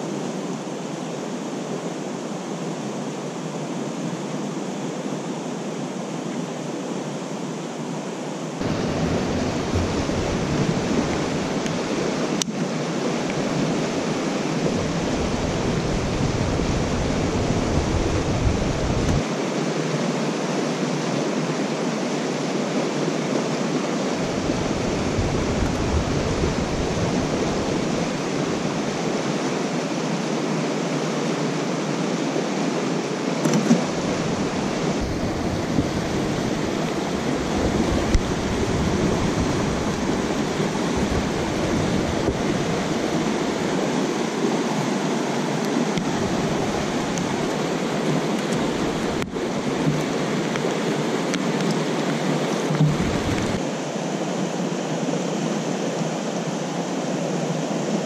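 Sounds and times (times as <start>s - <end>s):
loud rushing white noise: 8.6s - 58.0s.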